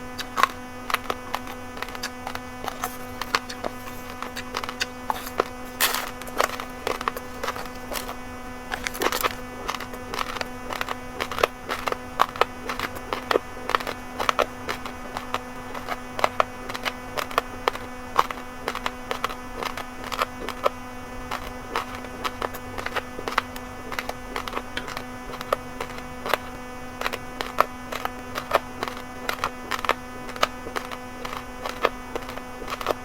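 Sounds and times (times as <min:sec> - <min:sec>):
chewing uncooked rice: 0:00.0 - 0:33.0
steady low hum: 0:00.0 - 0:33.0.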